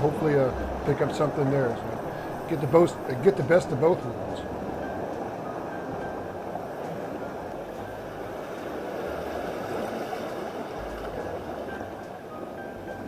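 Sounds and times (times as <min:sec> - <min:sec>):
ocean surf breaking on rocks: 0:00.0 - 0:13.0.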